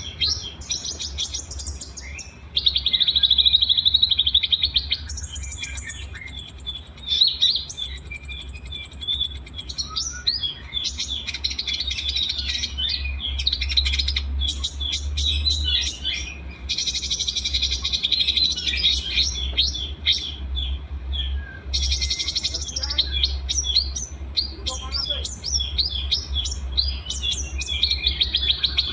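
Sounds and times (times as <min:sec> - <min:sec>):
songbirds chirping and trilling: 0:00.0 - 0:28.9
steady low hum: 0:00.0 - 0:28.9.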